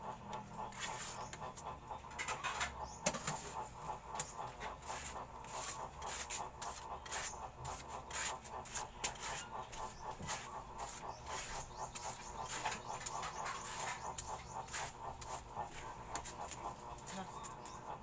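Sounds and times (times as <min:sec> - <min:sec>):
rapid scraping and clicking: 0:00.1 - 0:18.0.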